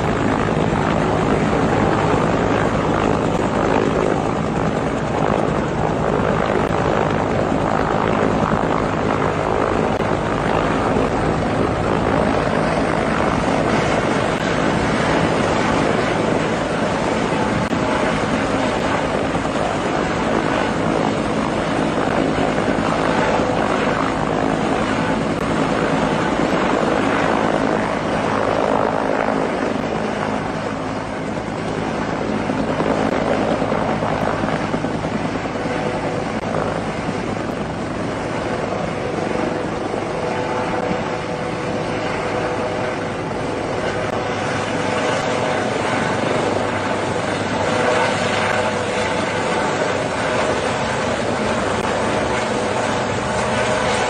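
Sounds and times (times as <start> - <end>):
helicopters hovering: 0.0 - 54.0
rotor and turbine noise: 0.0 - 54.0.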